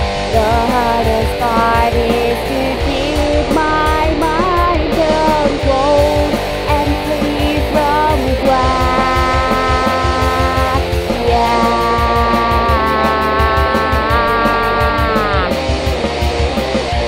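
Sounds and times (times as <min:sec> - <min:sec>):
rock song with guitar: 0:00.0 - 0:17.0
steady drum beat: 0:00.0 - 0:17.0
person singing: 0:00.3 - 0:15.6.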